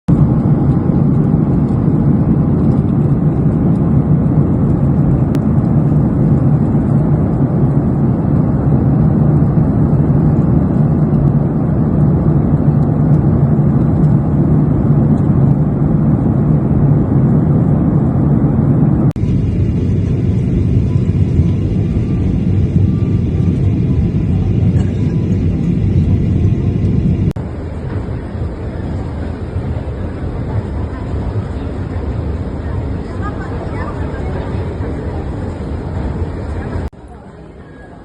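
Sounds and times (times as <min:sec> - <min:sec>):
airliner cabin engine rumble: 0:00.1 - 0:38.0.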